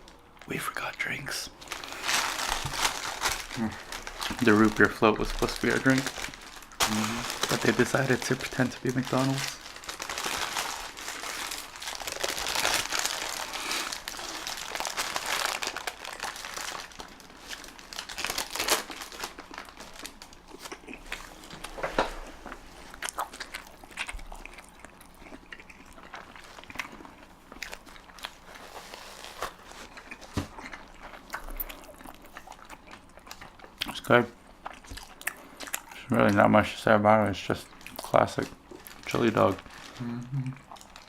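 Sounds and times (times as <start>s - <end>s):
food wrapper crinkling: 1.6s - 35.9s, 37.5s - 41.0s.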